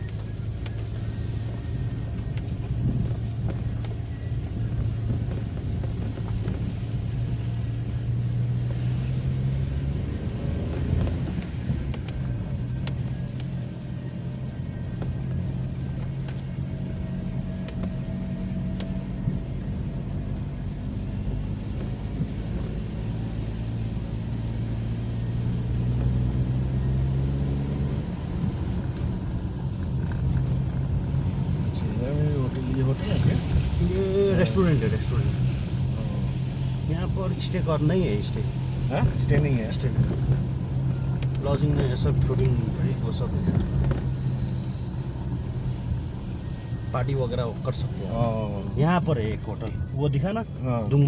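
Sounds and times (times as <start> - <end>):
car engine running: 0.0 - 51.0
road noise: 0.0 - 51.0.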